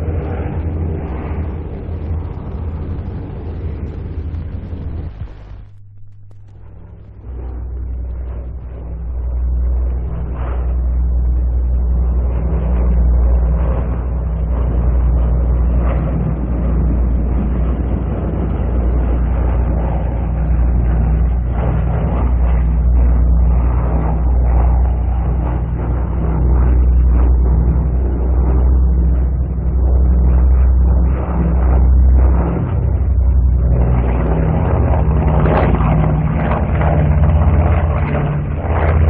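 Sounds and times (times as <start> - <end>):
aircraft piston engines droning: 0.0 - 39.0.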